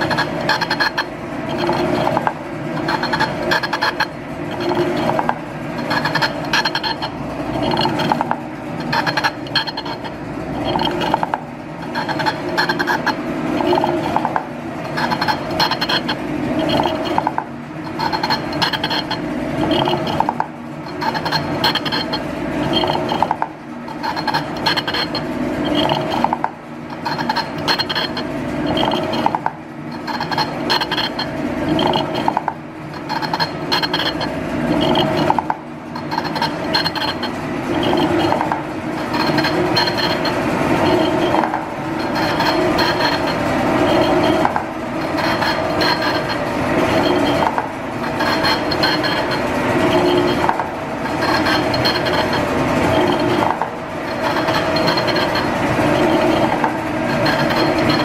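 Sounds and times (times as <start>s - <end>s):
machine clattering and clinking: 0.0s - 58.0s
metal shaper cutting tool scraping: 0.0s - 58.0s.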